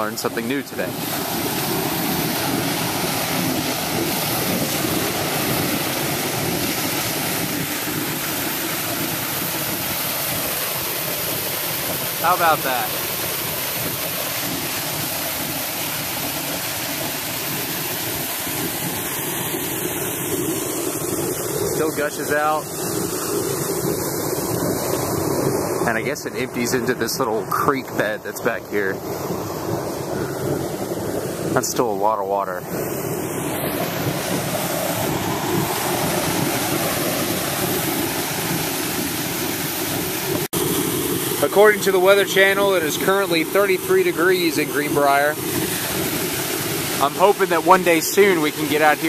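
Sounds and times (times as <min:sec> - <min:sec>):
water gushing onto ground: 0:00.0 - 0:49.0.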